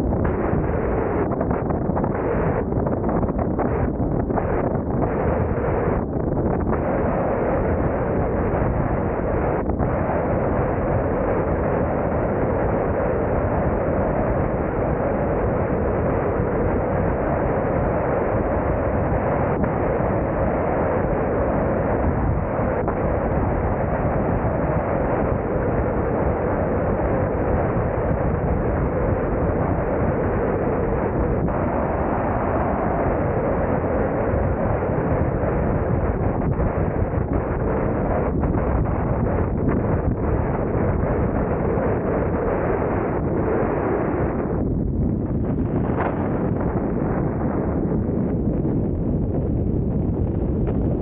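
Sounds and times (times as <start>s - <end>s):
wind on microphone: 0.0s - 51.0s.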